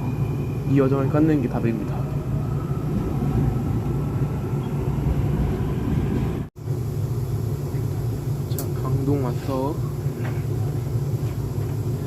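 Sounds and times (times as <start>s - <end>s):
subway train rumble from inside: 0.0s - 12.0s.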